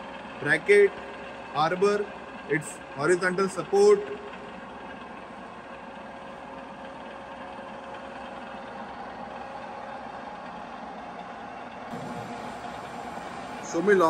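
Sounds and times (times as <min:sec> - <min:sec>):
faint steady tones: 0:00.0 - 0:14.0
machinery humming: 0:00.0 - 0:14.0.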